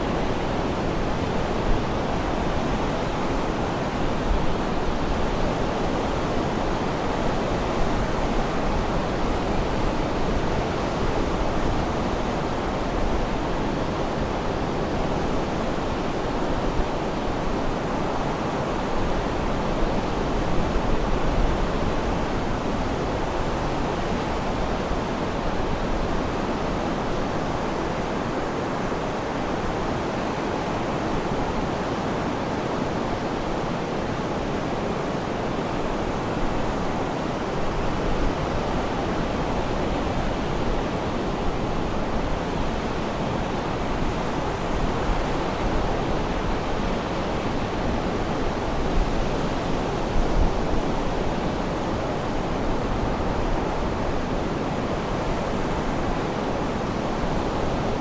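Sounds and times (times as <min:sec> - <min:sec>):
sea waves washing on shore: 0:00.0 - 0:20.2, 0:21.5 - 0:58.0.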